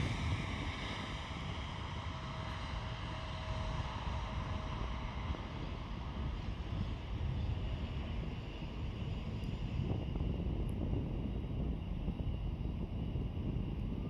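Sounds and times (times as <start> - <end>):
airliner engines rumbling: 0.0 - 14.0
wind noise on microphone: 0.0 - 14.0.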